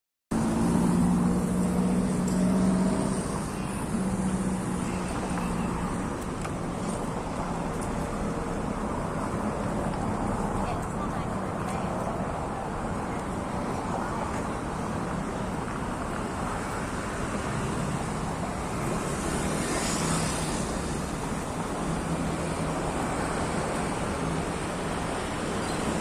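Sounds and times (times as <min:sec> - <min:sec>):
street traffic noise: 0:00.3 - 0:26.0.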